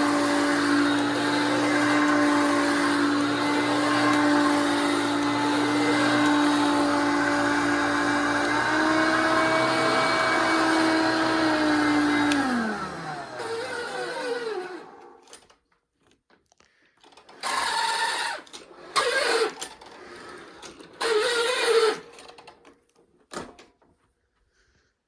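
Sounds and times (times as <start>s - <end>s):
vacuum cleaner motor whine: 0.0s - 15.3s, 17.4s - 22.2s.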